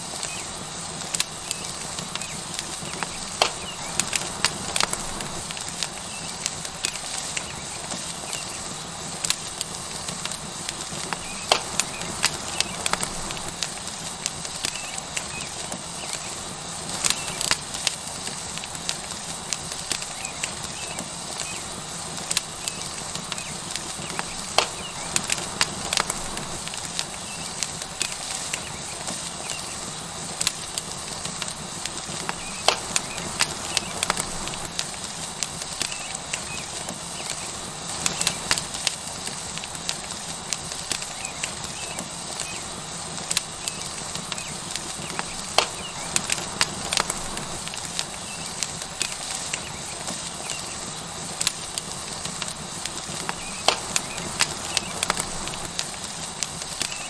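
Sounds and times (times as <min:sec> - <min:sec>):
burning wood crackling: 0:00.0 - 0:57.0
steak sizzling on hot rock: 0:00.0 - 0:57.0.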